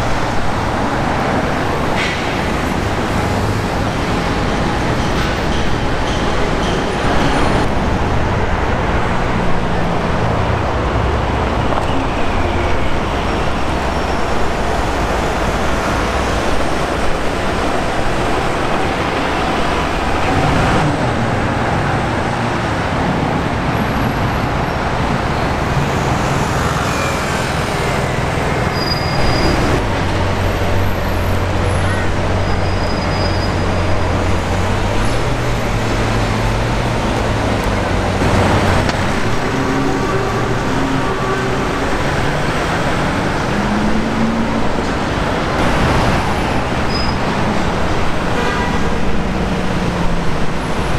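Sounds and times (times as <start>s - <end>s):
city traffic: 0.0s - 50.9s.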